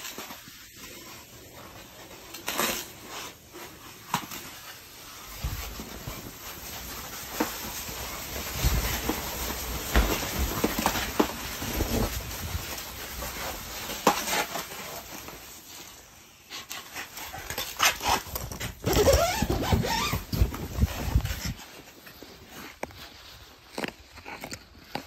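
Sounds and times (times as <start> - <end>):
ice skates scraping on ice: 0.0 - 25.0.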